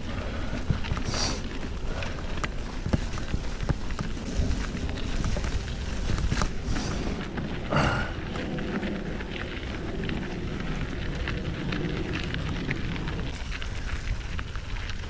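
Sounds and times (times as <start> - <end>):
bike tyres rumbling over dirt: 0.0 - 15.0
small clicks and crackles: 0.0 - 15.0.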